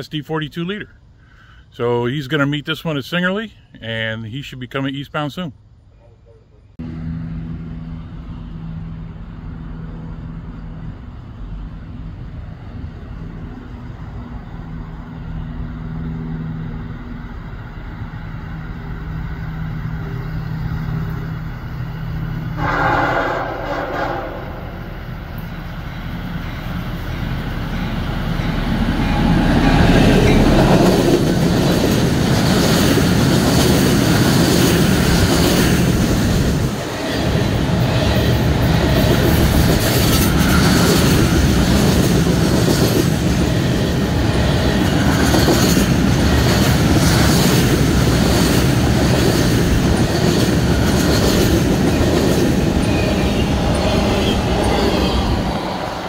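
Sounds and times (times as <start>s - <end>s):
railcars rumbling: 0.0s - 56.0s
diesel locomotive passing: 5.1s - 56.0s.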